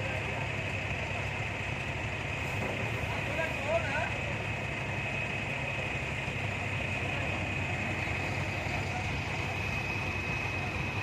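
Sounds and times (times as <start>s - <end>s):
crane diesel engine running: 0.0s - 11.0s.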